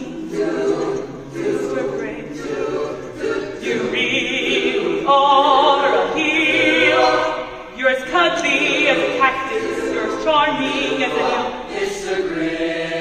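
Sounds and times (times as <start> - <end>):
chamber choir singing: 0.0 - 13.0.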